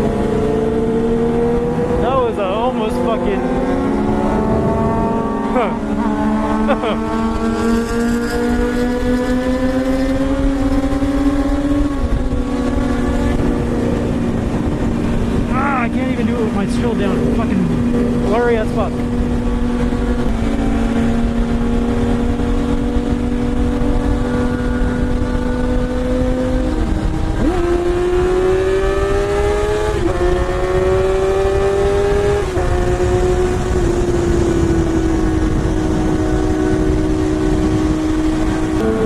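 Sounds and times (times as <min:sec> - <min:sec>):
motorcycle engine revving: 0:00.0 - 0:39.0
wind rushing: 0:00.0 - 0:39.0.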